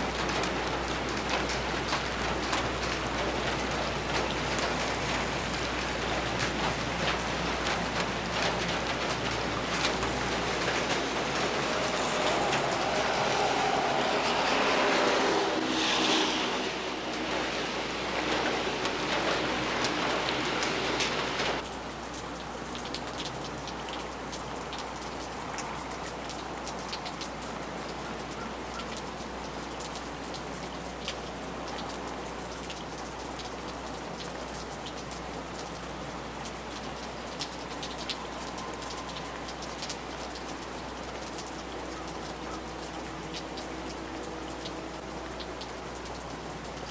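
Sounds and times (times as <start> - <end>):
rain on pavement: 0.0 - 46.9
vehicle passing on wet road: 0.0 - 46.9
water dripping from gutter: 0.0 - 46.9.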